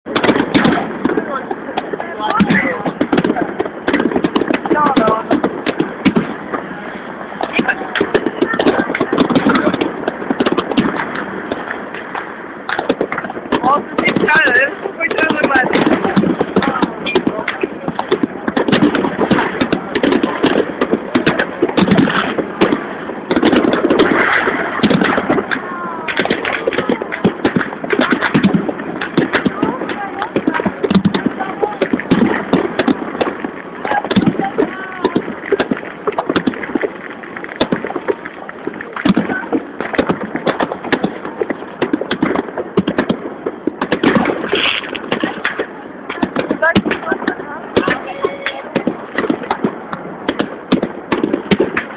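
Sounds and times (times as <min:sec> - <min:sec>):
firework shells bursting: 0:00.0 - 0:51.9.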